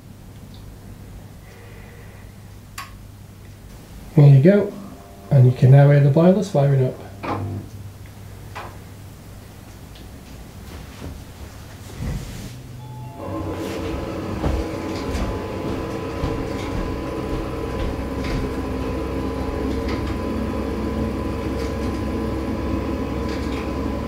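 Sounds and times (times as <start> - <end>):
boiler mechanical hum: 0.0 - 24.0.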